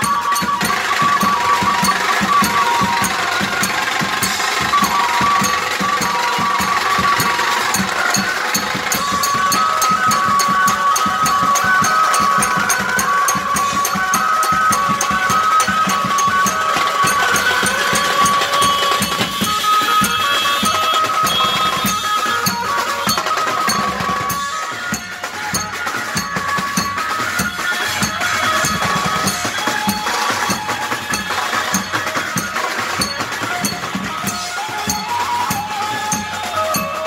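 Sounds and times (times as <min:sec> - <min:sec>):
amplified melody through loudspeakers: 0:00.0 - 0:37.0
fast drum beat with cymbals: 0:00.0 - 0:37.0.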